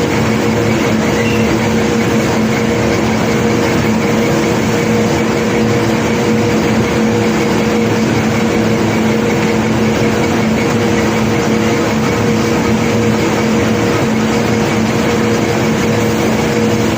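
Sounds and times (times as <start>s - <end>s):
heavy machinery drone: 0.0s - 16.9s.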